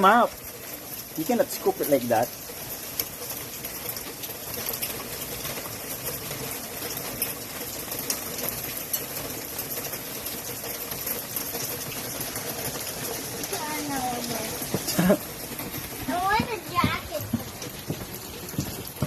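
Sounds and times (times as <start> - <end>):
hail pattering on ground: 0.0 - 19.0.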